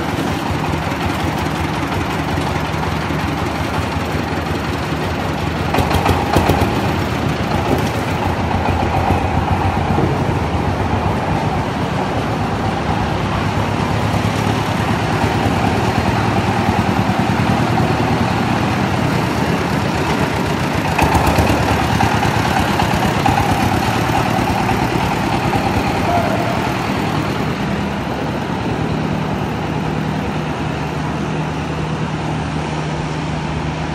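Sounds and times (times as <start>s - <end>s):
diesel engines droning: 0.0s - 33.9s.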